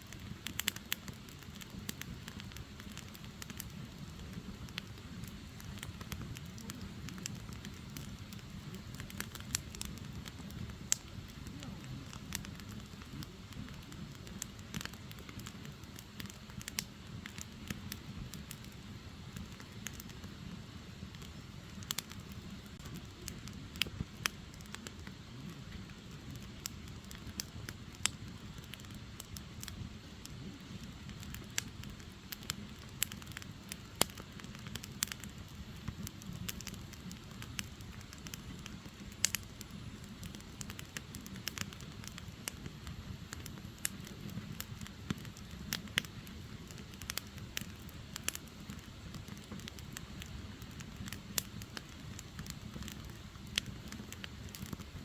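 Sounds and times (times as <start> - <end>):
firewood crackling and popping: 0.0 - 55.0
low flutter of flames: 0.0 - 55.0.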